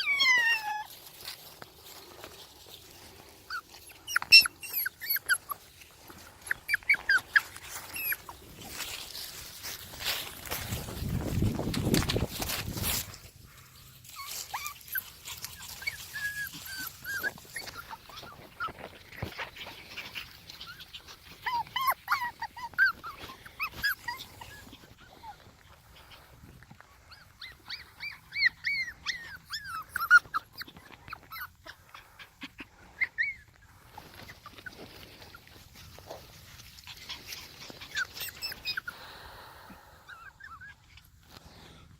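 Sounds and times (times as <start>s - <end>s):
puppies squeaking and whimpering: 0.0s - 39.2s, 39.8s - 41.3s.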